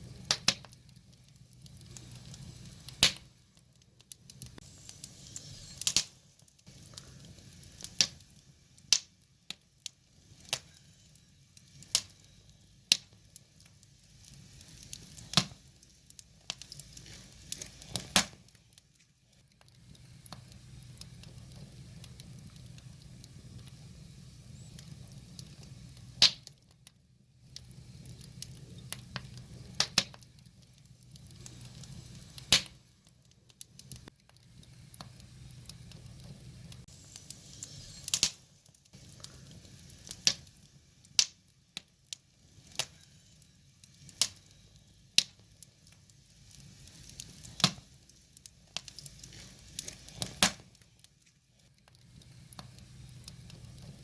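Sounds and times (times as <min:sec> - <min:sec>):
burning logs crackling and popping: 0:00.0 - 0:54.0
fire hissing: 0:00.0 - 0:54.0.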